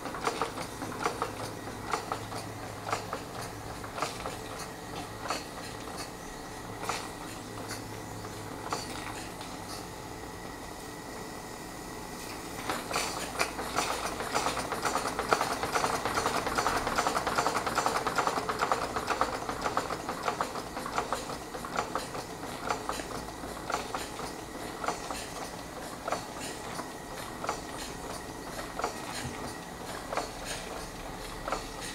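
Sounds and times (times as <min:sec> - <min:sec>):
model steam engine chuffing: 0:00.0 - 0:10.5, 0:12.5 - 0:31.9.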